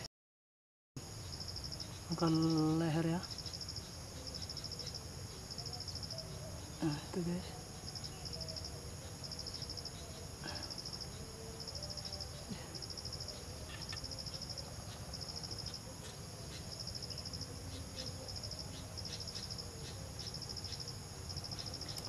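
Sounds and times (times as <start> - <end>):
high-pitched insect drone: 1.0 - 22.0
insects chirping in pulsed trains: 1.0 - 22.0.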